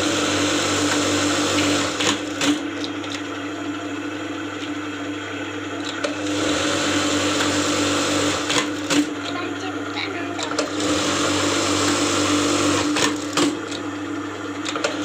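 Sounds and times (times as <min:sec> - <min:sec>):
sewing machine whirring: 0:00.0 - 0:15.0.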